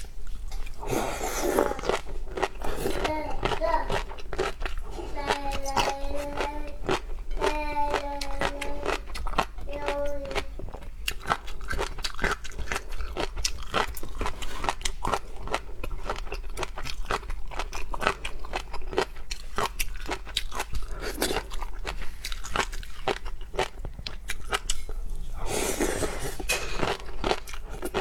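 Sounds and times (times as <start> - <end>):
shellfish being chewed: 0.0 - 28.0.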